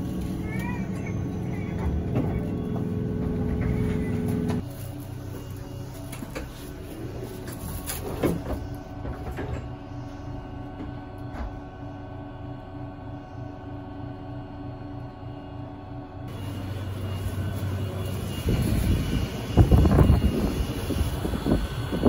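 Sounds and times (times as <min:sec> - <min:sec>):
electrical hum in train car: 0:00.0 - 0:22.0.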